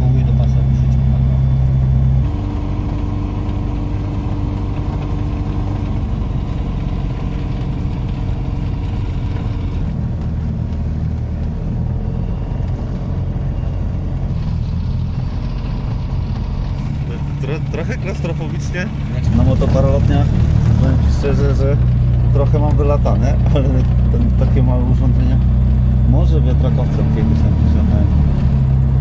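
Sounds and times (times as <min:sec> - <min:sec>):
aircraft engine droning: 0:00.0 - 0:29.0.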